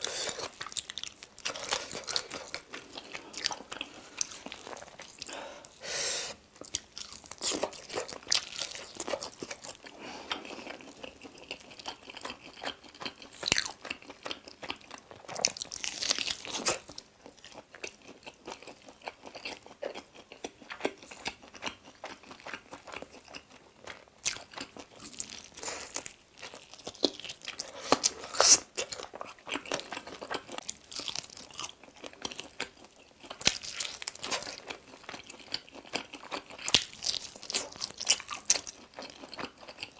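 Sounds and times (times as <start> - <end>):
crunchy bites and chewing: 6.6 - 39.9.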